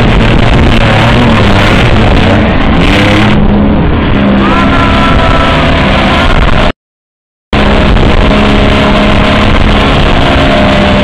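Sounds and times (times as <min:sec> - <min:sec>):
pickup truck engine revving: 0:00.0 - 0:06.7, 0:07.6 - 0:11.0.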